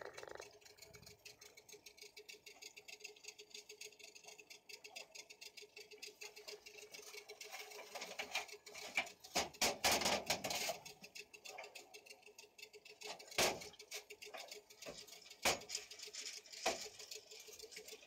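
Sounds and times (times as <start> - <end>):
wet net ticks and drips: 0.4 - 18.0.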